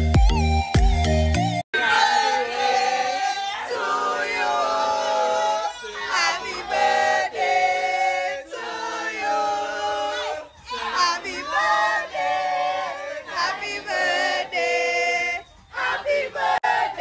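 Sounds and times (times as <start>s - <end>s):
group of people singing: 1.8s - 17.0s.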